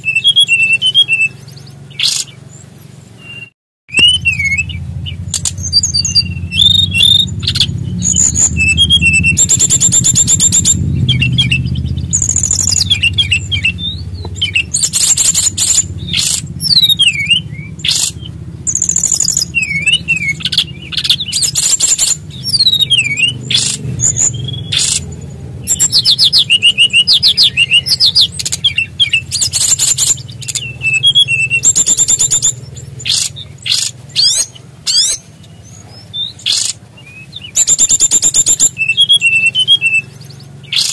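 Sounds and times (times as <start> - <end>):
bird singing trills and whistles: 0.0 - 40.9
steady low hum: 0.0 - 40.9.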